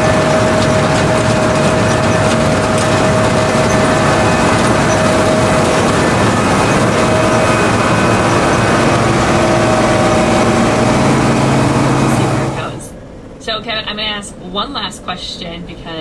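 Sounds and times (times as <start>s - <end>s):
combine harvester running: 0.0s - 16.0s
steady machinery whine: 0.0s - 16.0s.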